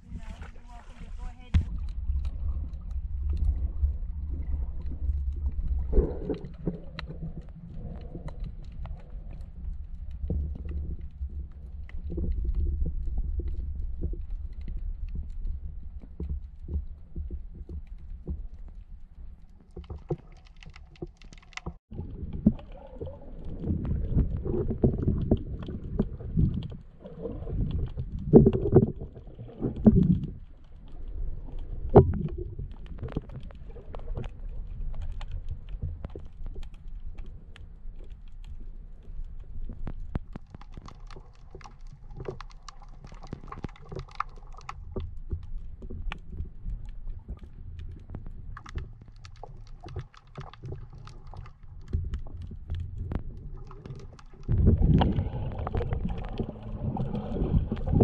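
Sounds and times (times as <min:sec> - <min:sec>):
muffled underwater water surges: 0:00.0 - 0:58.0
sharp clicks and crackles: 0:01.4 - 0:58.0.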